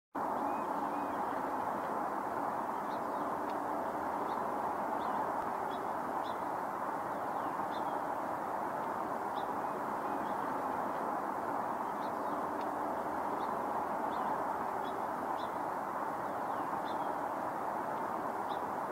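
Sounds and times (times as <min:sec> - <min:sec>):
birds chirping: 0:00.2 - 0:18.9
steady rushing noise: 0:00.2 - 0:18.9.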